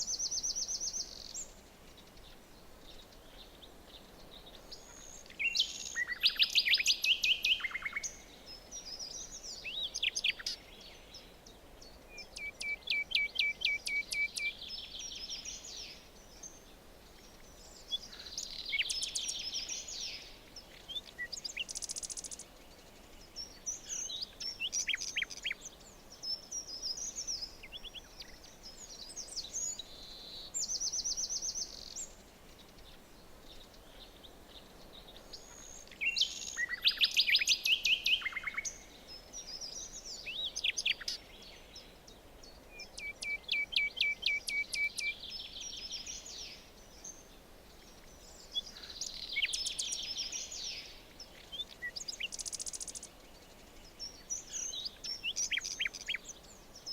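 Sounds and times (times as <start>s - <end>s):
faint steady hiss: 0.0s - 56.9s
songbirds singing: 0.0s - 56.9s.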